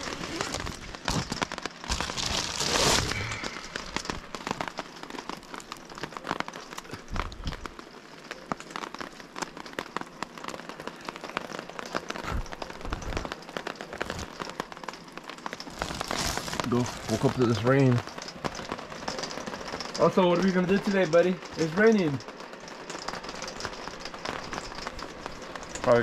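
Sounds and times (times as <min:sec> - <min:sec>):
rain on camper roof: 0:00.0 - 0:26.0.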